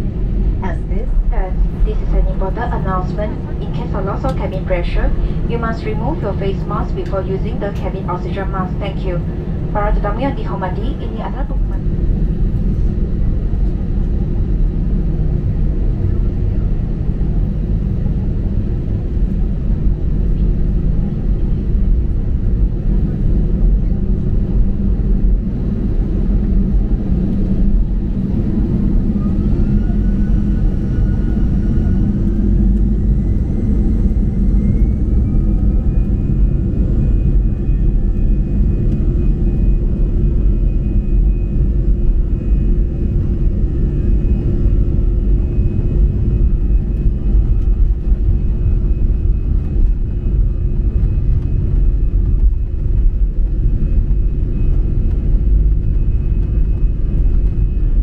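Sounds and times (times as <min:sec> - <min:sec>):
heavy rumble of rolling airliner: 0:00.0 - 0:58.0
jet engines whining: 0:00.0 - 0:58.0.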